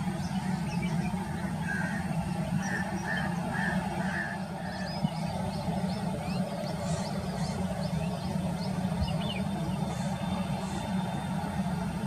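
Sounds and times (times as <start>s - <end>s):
jet engines at low thrust: 0.0s - 12.0s.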